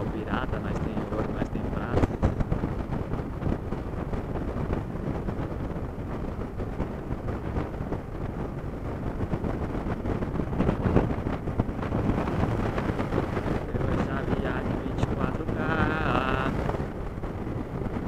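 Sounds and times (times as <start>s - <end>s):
motorcycle riding: 0.0s - 18.0s
wind buffeting microphone: 0.0s - 18.0s.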